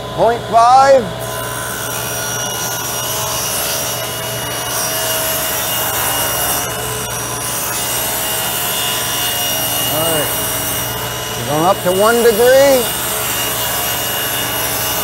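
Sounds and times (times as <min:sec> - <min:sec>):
phase converter humming: 0:00.0 - 0:15.0
shop vacuum running: 0:00.0 - 0:15.0
table saw cutting wood: 0:00.0 - 0:15.0.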